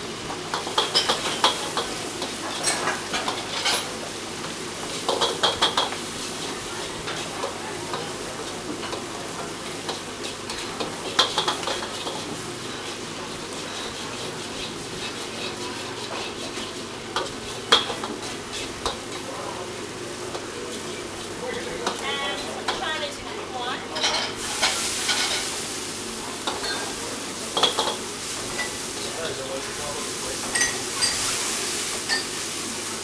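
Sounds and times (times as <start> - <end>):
food sizzling in a wok: 0.0 - 33.0.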